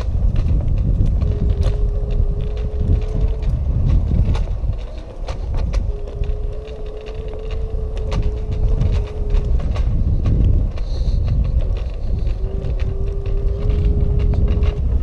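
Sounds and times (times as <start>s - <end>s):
clicks and rattles from riding: 0.0s - 15.0s
electric scooter motor whine: 0.0s - 15.0s
wind rumbling on microphone: 0.0s - 15.0s.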